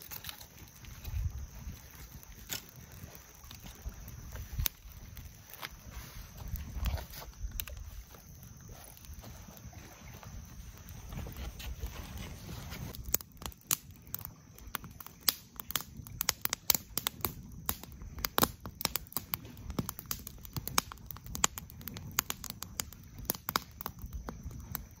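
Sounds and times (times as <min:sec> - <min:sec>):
sharp crackling and snapping: 0:00.0 - 0:25.0.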